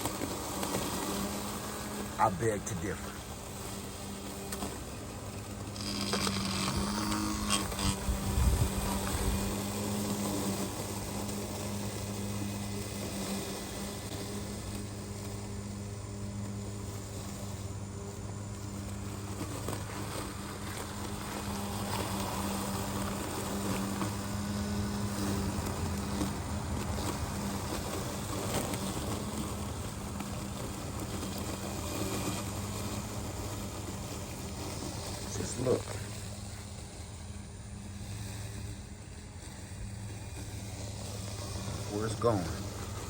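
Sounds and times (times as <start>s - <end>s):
lawnmower motors humming: 0.0s - 43.0s.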